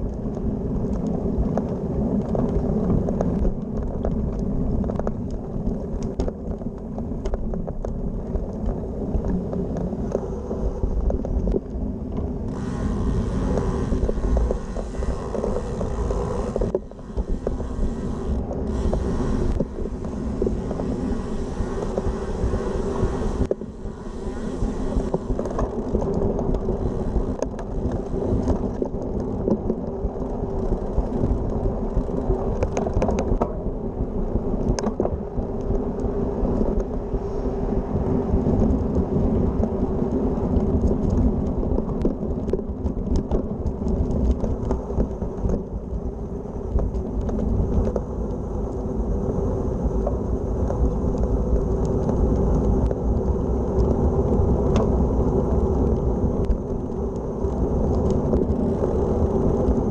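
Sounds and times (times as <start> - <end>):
bike tyres rolling on path: 0.0 - 59.9
wind buffeting microphone: 0.0 - 59.9.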